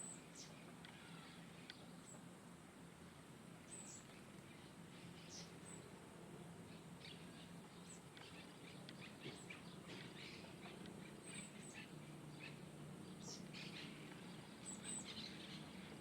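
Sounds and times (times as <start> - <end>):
small birds chirping: 0.0 - 2.3, 3.6 - 6.0, 6.6 - 16.0
low steady hum: 0.0 - 16.0.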